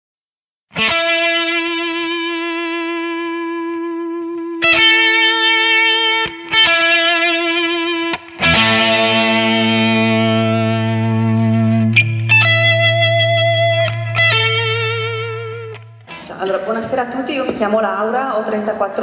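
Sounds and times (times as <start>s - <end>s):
distorted electric guitar: 0.7s - 17.8s.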